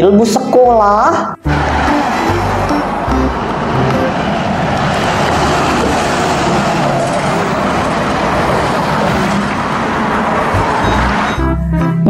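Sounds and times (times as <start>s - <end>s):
road traffic rush: 1.4s - 11.7s.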